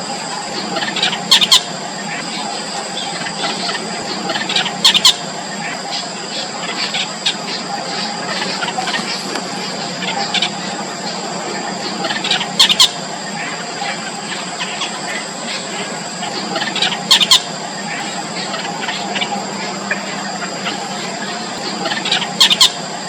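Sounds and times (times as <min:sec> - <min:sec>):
nestlings peeping: 0:00.0 - 0:23.0
nestlings squealing: 0:00.0 - 0:23.0
steady background hum: 0:00.0 - 0:23.0.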